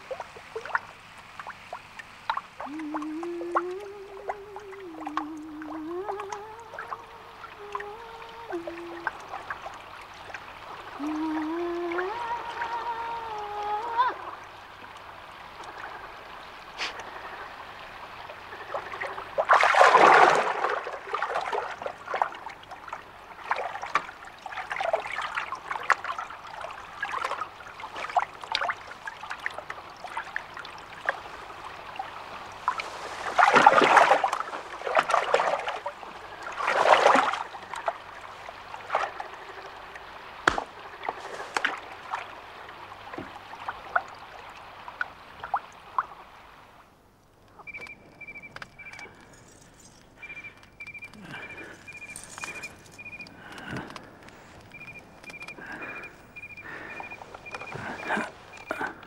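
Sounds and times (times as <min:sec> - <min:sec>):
water splashes: 0:00.0 - 0:59.0
water trickling and lapping: 0:00.0 - 0:59.0.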